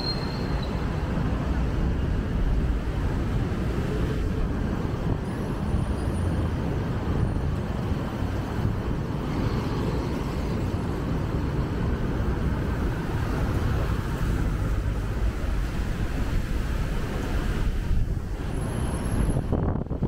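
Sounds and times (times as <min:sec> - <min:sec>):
cars passing on a street: 0:00.0 - 0:20.0.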